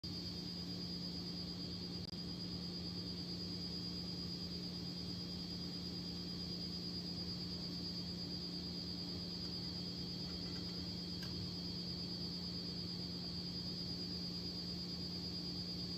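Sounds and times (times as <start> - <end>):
electrical machine hum: 0.0 - 15.9.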